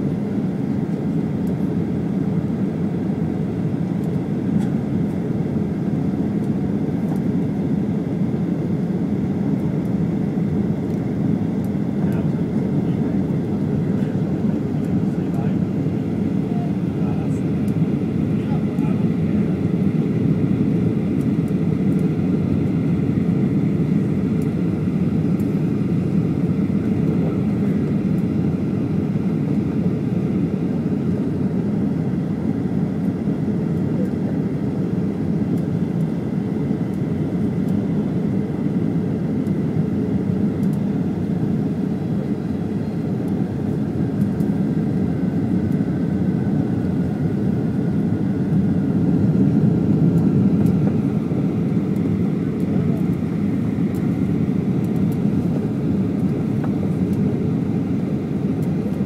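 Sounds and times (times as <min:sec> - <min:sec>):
faint steady whine: 0:00.0 - 0:59.0
jet engines and airflow in cabin: 0:00.0 - 0:59.0.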